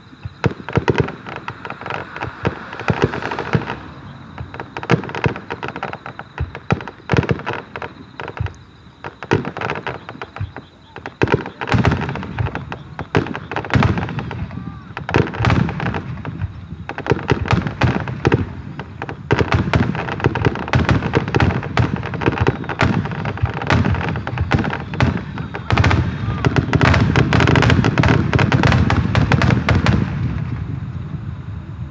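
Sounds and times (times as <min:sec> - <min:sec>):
firework bangs and crackles: 0:00.0 - 0:31.9.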